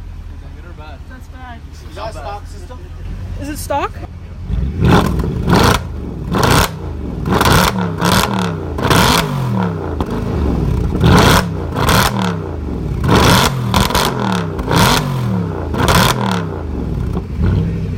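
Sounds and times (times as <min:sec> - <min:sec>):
car engine revving: 0:02.9 - 0:17.9.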